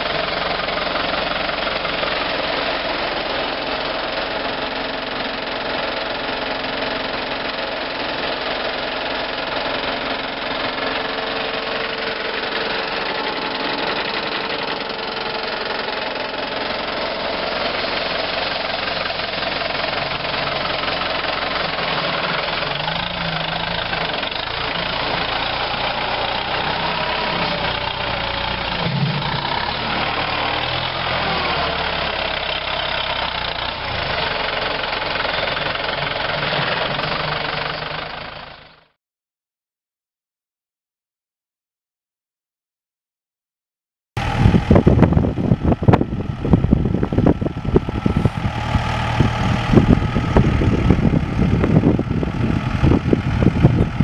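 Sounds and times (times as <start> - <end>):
tractor diesel engine running: 0.0 - 39.0, 44.2 - 54.0.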